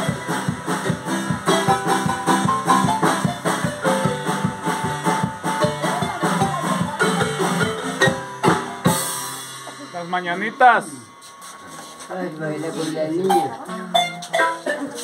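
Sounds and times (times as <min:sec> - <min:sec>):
marimba band playing: 0:00.0 - 0:12.0, 0:12.7 - 0:15.0.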